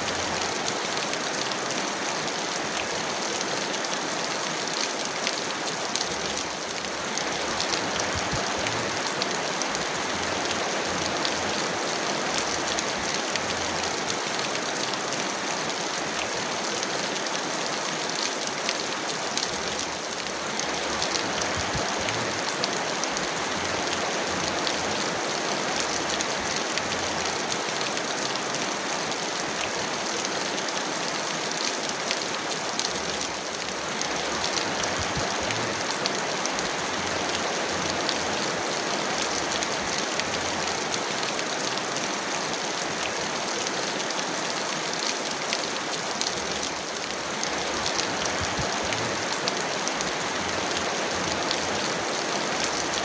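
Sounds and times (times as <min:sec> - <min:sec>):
heavy rain hissing: 0:00.0 - 0:53.0
raindrops ticking: 0:00.0 - 0:53.0.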